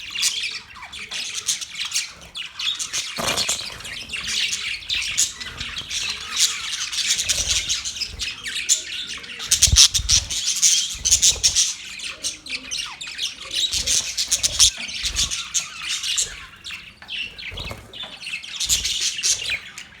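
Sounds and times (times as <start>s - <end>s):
budgerigars chattering: 0.0s - 20.0s.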